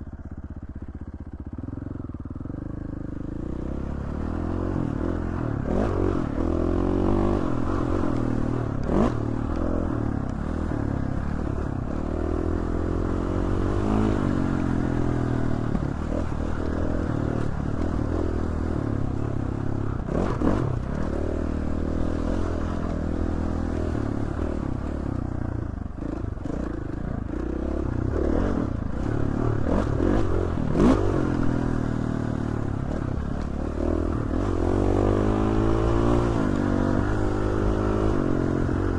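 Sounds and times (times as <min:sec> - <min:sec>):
dirt bike engine revving: 0:03.2 - 0:25.2, 0:26.0 - 0:38.9.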